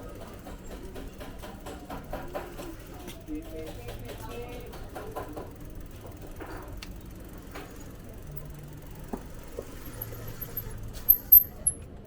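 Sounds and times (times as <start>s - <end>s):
low street hum: 0.0s - 12.0s.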